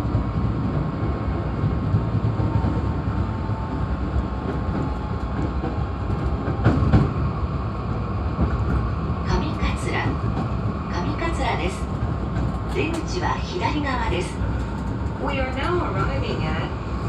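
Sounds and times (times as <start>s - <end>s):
train clatter: 0.0s - 17.0s
train wheels rumbling on rail: 0.0s - 17.0s.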